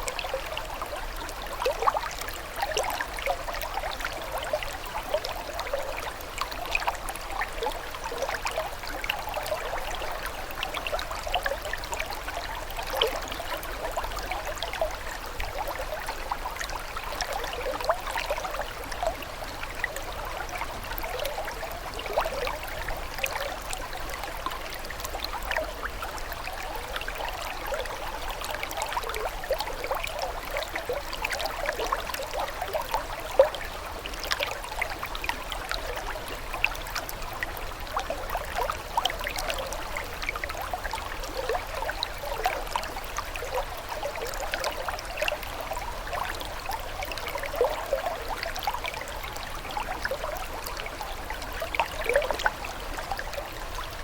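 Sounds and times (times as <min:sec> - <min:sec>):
water trickling and gurgling: 0:00.0 - 0:54.0.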